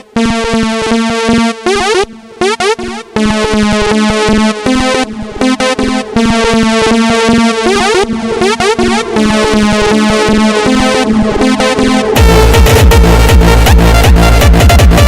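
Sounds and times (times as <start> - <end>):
electronic synthesizer music: 0.0 - 15.0.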